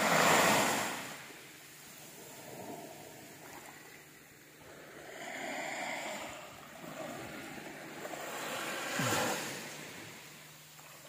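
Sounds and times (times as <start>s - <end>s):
small waves lapping on a beach: 0.0s - 11.0s.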